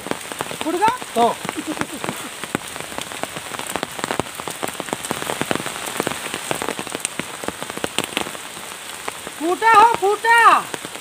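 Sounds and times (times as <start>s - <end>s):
rain falling on wet ground: 0.0s - 11.0s.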